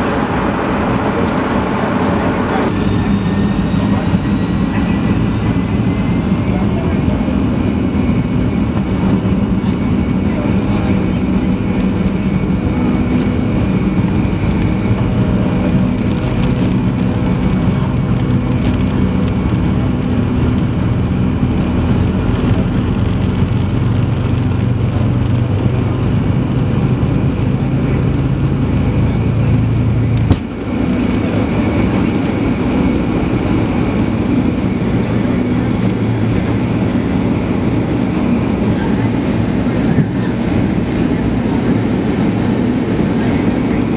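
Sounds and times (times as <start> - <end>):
aircraft engine drone in cabin: 0.0 - 43.9.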